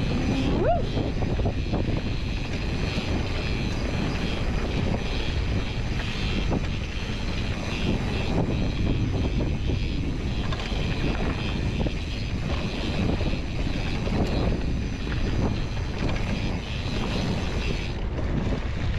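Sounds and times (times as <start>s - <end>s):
bike tyres rumbling and rattling: 0.0s - 18.9s
wind over microphone: 0.0s - 18.9s.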